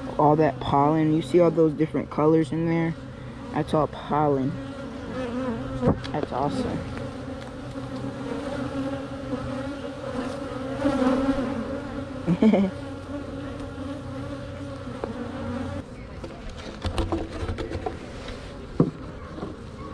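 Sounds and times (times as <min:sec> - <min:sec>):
honey bees buzzing: 0:00.0 - 0:16.4.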